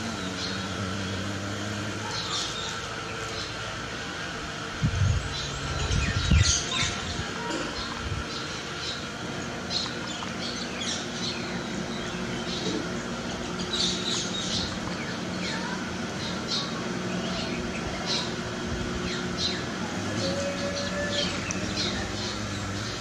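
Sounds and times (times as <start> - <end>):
low hum: 0.0 - 23.0
small birds chirping: 0.0 - 23.0.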